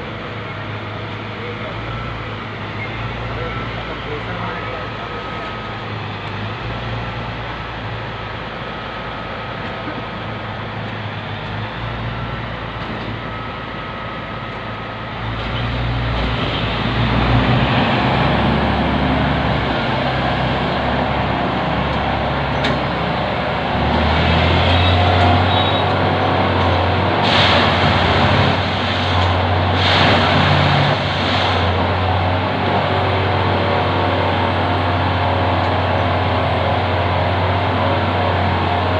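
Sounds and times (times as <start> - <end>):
machine engine drone: 0.0 - 38.9.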